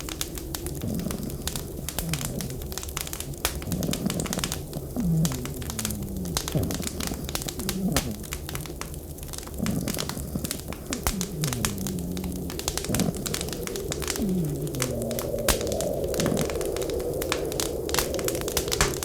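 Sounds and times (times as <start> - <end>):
blizzard wind howling: 0.0 - 19.0
wood fire crackling: 0.0 - 19.0.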